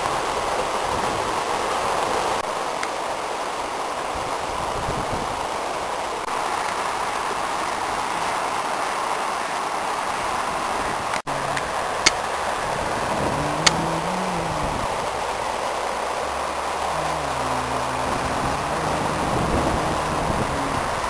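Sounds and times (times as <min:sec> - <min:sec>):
rushing flooded river: 0:00.0 - 0:21.0.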